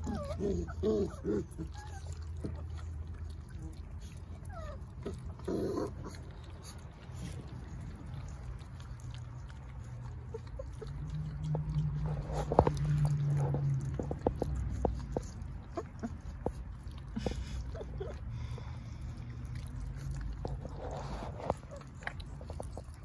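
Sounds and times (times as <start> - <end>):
puppies crunching bones: 0.0 - 23.0.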